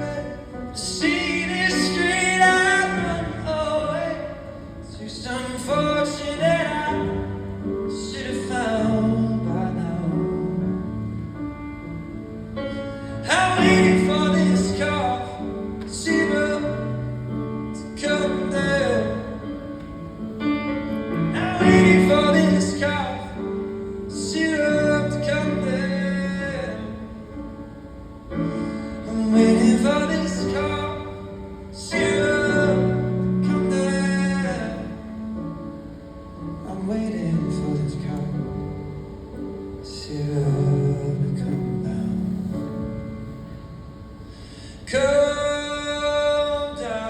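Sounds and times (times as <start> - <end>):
man singing a pop ballad: 0.0 - 10.9, 12.8 - 19.7, 21.2 - 27.2, 28.5 - 35.1, 36.6 - 38.8, 39.8 - 42.8, 44.7 - 47.0
piano chords: 0.0 - 47.0.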